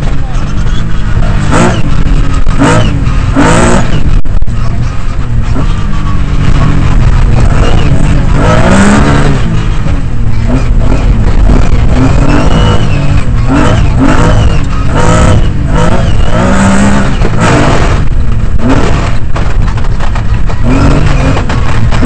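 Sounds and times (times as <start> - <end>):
rally car engine revving: 0.0 - 22.0
tyres rushing on gravel: 0.0 - 22.0.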